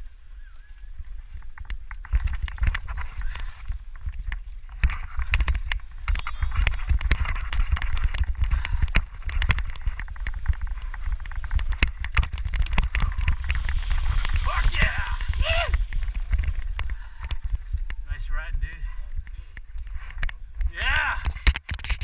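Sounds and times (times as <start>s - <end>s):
wind rumble on microphone: 0.0s - 22.0s
bike tyres hissing over dirt: 0.1s - 20.5s
bike rattling over bumps: 0.8s - 22.0s.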